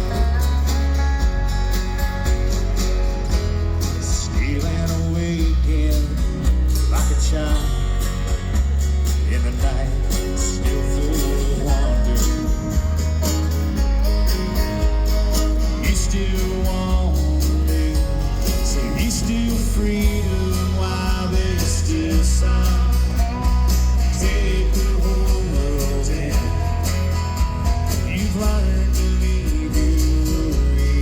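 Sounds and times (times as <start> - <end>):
heavy bass line: 0.0 - 31.0
plucked acoustic guitar: 0.0 - 31.0.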